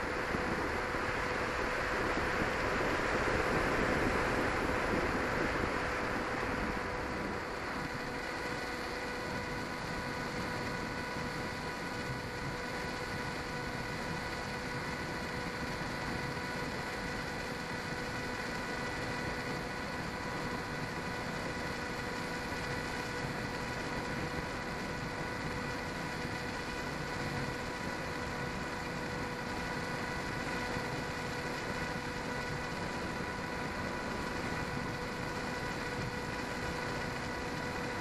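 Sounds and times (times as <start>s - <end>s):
electric motor and propeller whine: 0.0s - 38.0s
wind rushing over microphone: 0.0s - 38.0s.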